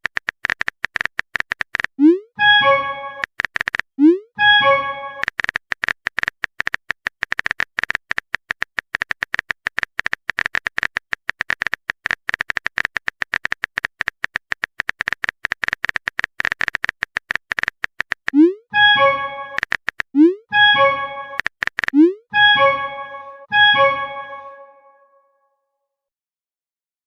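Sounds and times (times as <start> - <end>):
quick keyboard typing clicks: 0.0 - 2.0, 2.6 - 3.9, 4.5 - 24.6.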